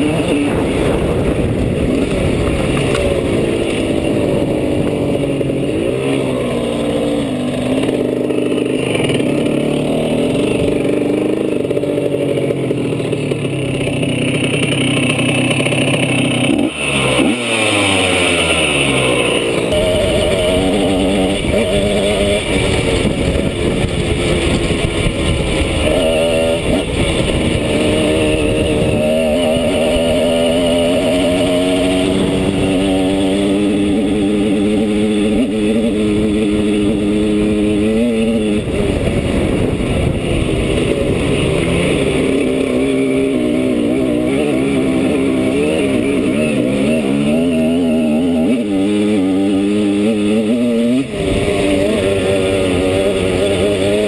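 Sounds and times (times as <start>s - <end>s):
two-stroke motorcycle engine: 0.0s - 54.0s.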